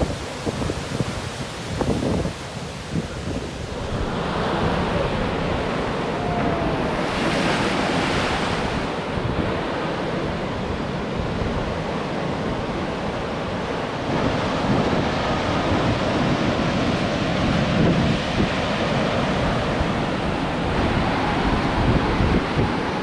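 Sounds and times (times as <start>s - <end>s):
heavy surf breaking: 0.0s - 23.0s
wind buffeting microphone: 0.0s - 23.0s.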